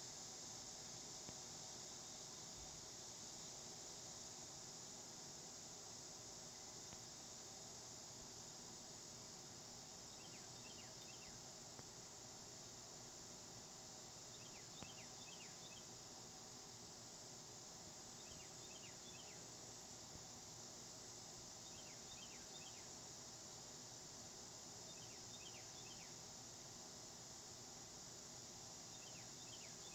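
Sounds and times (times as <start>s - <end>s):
steady high hiss: 0.0s - 29.9s.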